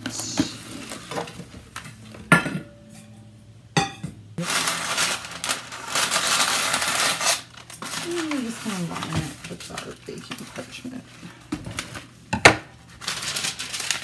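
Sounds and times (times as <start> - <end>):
parchment paper rustling and tearing: 0.0 - 1.8, 4.4 - 14.0.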